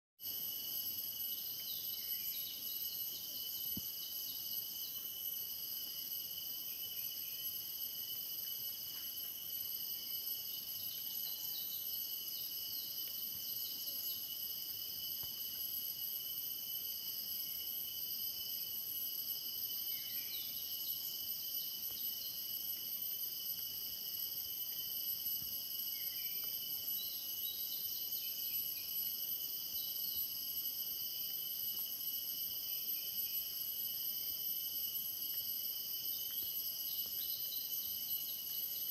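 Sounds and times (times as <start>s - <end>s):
insect chorus buzzing: 0.2s - 38.9s.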